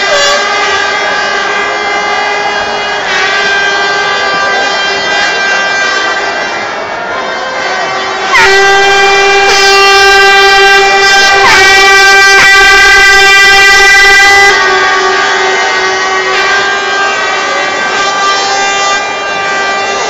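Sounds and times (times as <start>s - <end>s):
horns blaring: 0.0s - 20.0s.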